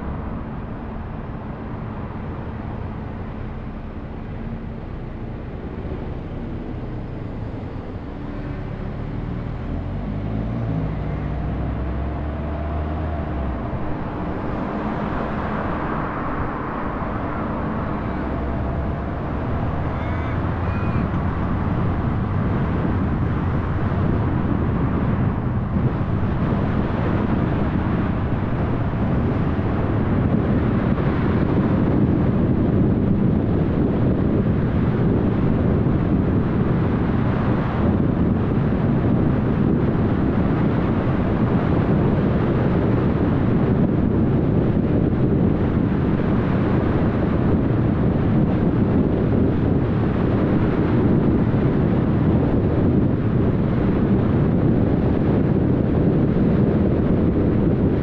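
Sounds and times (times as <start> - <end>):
car engine accelerating: 0.0 - 58.0
tyre and wind noise: 0.0 - 58.0.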